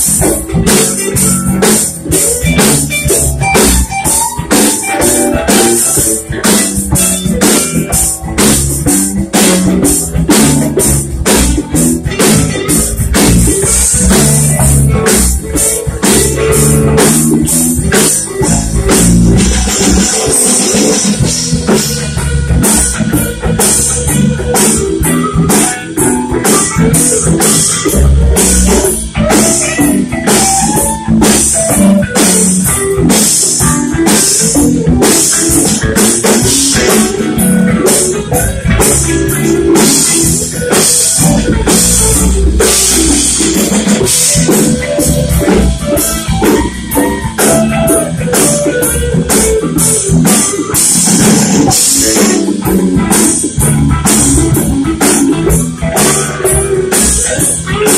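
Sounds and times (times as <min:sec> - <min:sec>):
bass guitar: 0:00.0 - 0:57.9
congas: 0:00.0 - 0:57.9
drum kit steady beat: 0:00.0 - 0:57.9
electric guitars: 0:00.0 - 0:57.9.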